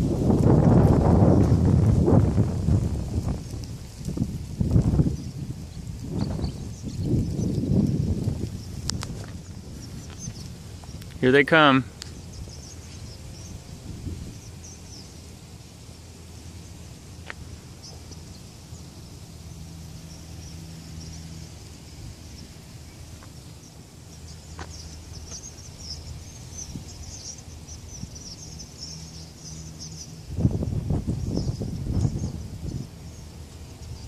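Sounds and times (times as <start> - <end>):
flock of birds chirping: 0.0 - 34.0
low steady rumble: 0.0 - 34.0.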